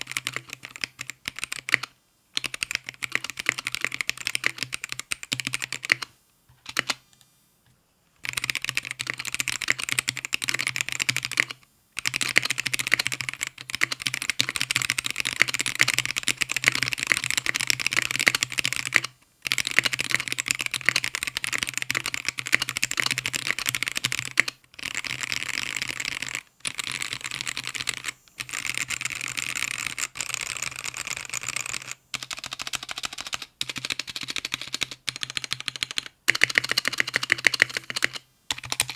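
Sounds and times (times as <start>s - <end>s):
fast mechanical keyboard typing: 0.0s - 7.0s, 8.2s - 38.9s.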